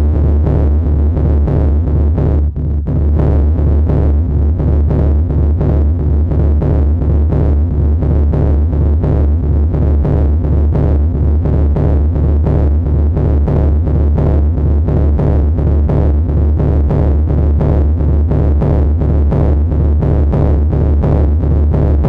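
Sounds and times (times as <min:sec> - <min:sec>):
harsh noise layer: 0:00.0 - 0:22.0
pulsing low bass drone: 0:00.0 - 0:22.0.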